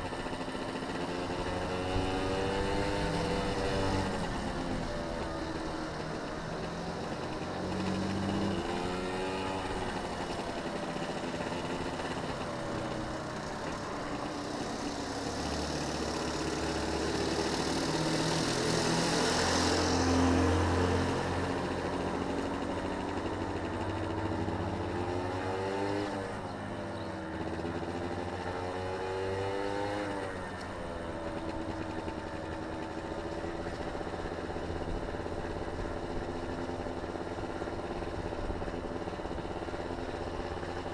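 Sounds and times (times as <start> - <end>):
small motorcycle engine revving: 0.0 - 40.9.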